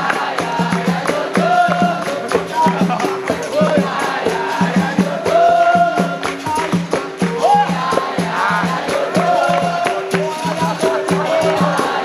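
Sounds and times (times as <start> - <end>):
hand claps: 0.0 - 12.0
people singing: 0.0 - 12.0
shaker: 0.0 - 12.0
tambourine: 0.0 - 12.0.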